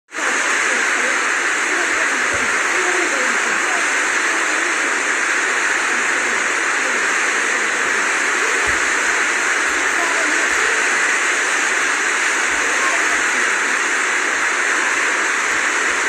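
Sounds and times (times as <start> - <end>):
river rushing in flood: 0.1 - 16.0.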